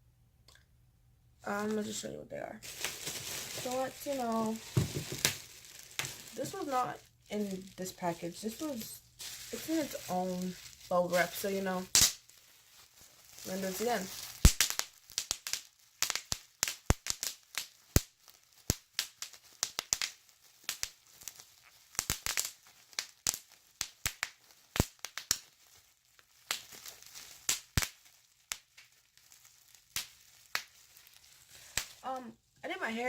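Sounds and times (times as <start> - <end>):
bubble wrap crinkling: 1.5 - 33.0.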